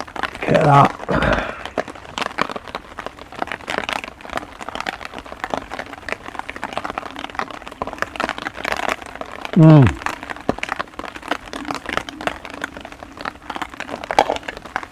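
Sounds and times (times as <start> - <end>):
heavy rain: 0.0 - 14.9
raindrops tapping: 0.0 - 14.9.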